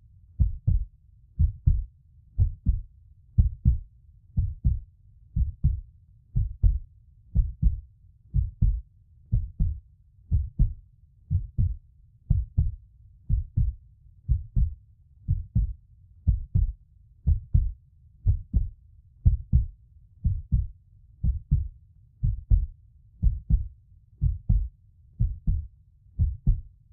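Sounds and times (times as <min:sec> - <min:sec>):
heartbeat lub-dub thumps: 0:00.4 - 0:02.8, 0:03.4 - 0:03.8, 0:04.4 - 0:04.8, 0:05.4 - 0:05.8, 0:06.4 - 0:06.8, 0:07.4 - 0:26.7.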